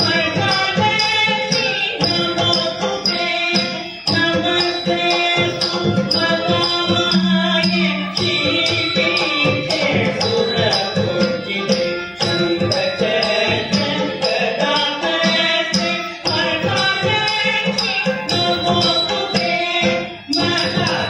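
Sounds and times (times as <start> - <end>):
devotional singing: 0.0 - 21.0
percussion steady beat: 0.0 - 21.0.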